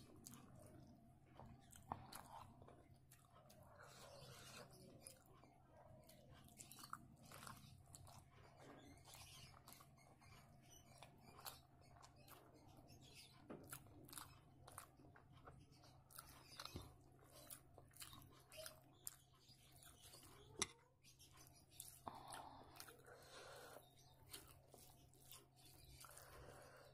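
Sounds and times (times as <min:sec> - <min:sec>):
person chewing food: 0:00.0 - 0:26.9.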